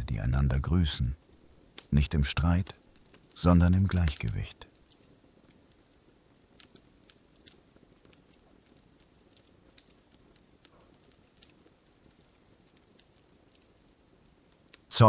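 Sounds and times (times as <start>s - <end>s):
campfire crackling: 0.0s - 15.0s
low hiss: 0.0s - 15.0s.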